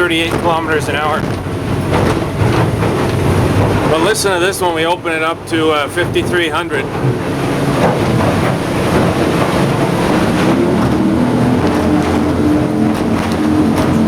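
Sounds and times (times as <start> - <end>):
outboard motor at full throttle: 0.0 - 14.0
rushing wind and water: 0.0 - 14.0.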